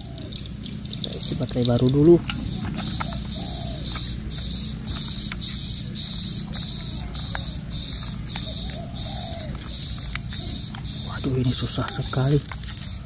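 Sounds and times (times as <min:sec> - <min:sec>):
dove cooing: 0:00.0 - 0:13.0
high repeating chirp: 0:00.0 - 0:13.0
steady low hum: 0:00.0 - 0:13.0.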